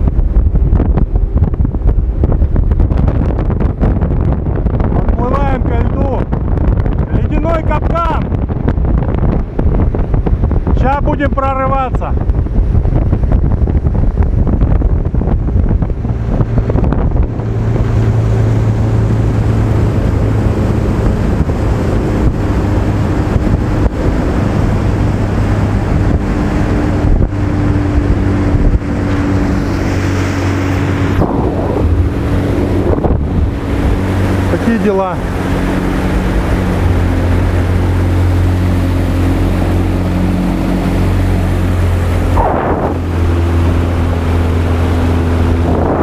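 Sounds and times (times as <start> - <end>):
outboard motor running: 0.0 - 46.0
wind buffeting microphone: 0.0 - 46.0.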